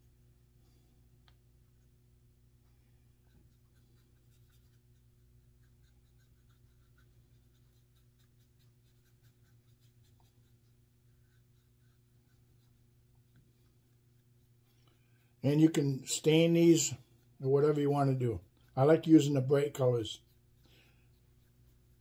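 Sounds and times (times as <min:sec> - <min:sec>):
low steady hum: 0:00.0 - 0:22.0
paintbrush strokes on wood: 0:02.7 - 0:22.0.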